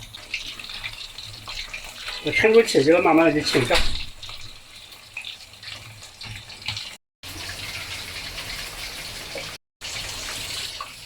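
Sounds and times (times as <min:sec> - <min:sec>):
meat deep-frying in hot oil: 0:00.0 - 0:11.0.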